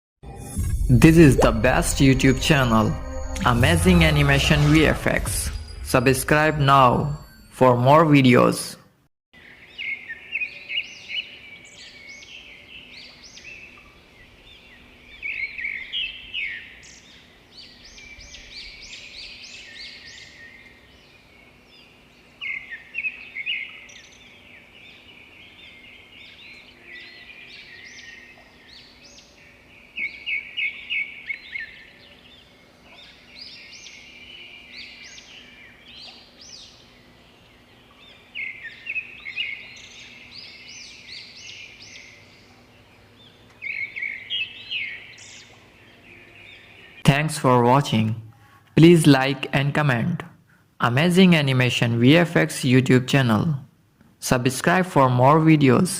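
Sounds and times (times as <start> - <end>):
birds chirping: 0.3 - 8.8, 9.4 - 50.2.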